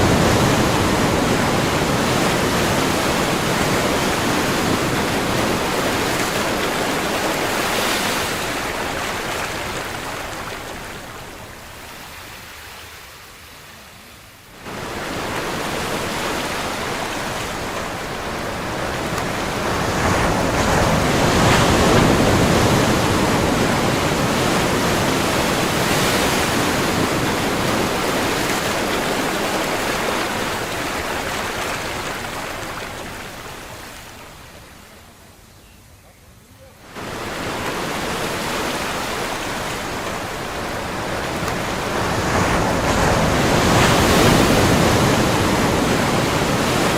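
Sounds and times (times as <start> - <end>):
ocean waves breaking: 0.0 - 35.0, 36.8 - 46.9.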